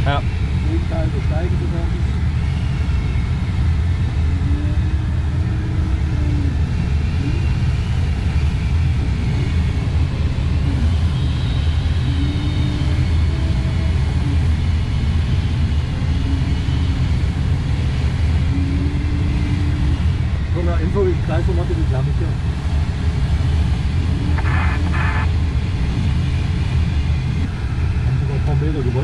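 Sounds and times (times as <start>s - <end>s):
airflow rushing around glider: 0.0s - 29.0s.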